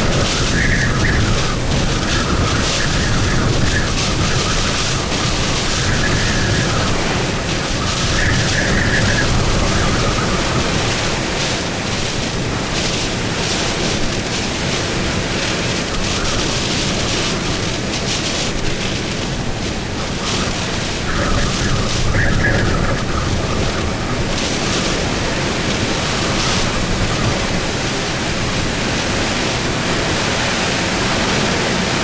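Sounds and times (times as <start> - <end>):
strong wind buffeting microphone: 0.0 - 32.0
wind whistling: 0.0 - 32.0.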